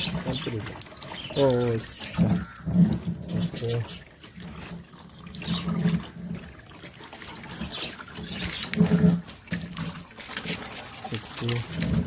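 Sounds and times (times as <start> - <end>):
water trickling from hose: 0.0 - 12.0.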